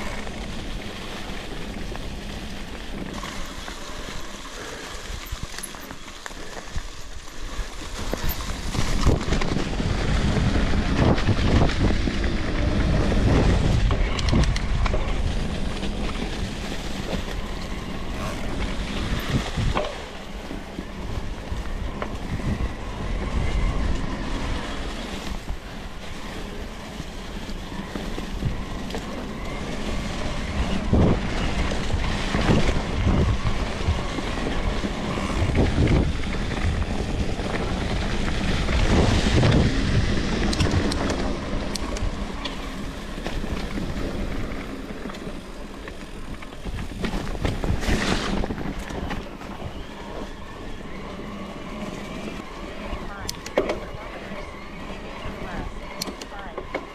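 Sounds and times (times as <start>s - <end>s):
tyres rumbling on road: 0.0s - 56.9s
wind buffeting microphone: 0.0s - 56.9s.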